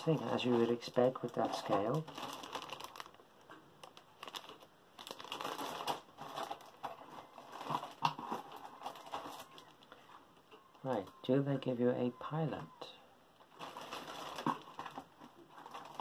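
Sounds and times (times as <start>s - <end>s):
plastic bags crinkling: 0.0s - 11.2s, 13.4s - 16.0s.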